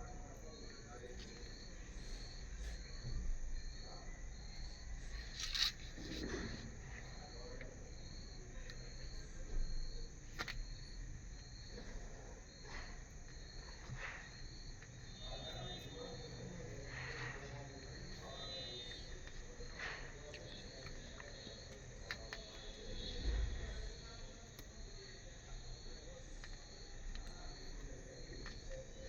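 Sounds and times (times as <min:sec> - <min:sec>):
cricket chirping: 0:00.0 - 0:29.0.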